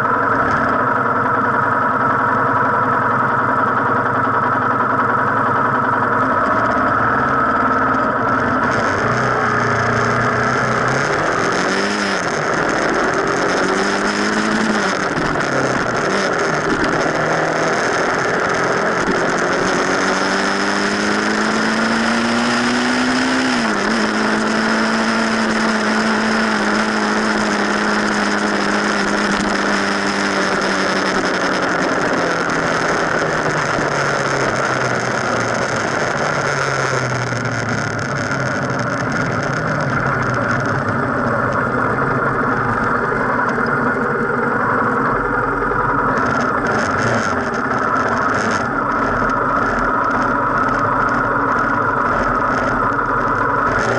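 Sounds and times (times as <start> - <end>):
bike tyre humming on asphalt: 0.0 - 53.9.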